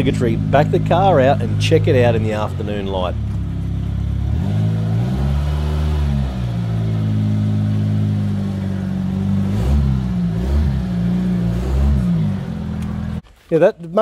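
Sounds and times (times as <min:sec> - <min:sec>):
car engine: 0:00.0 - 0:13.5.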